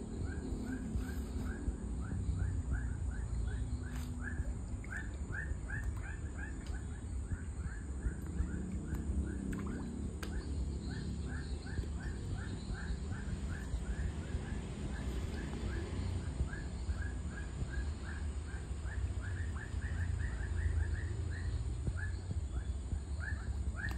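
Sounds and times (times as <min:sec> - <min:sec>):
low steady rumble: 0:00.0 - 0:23.9.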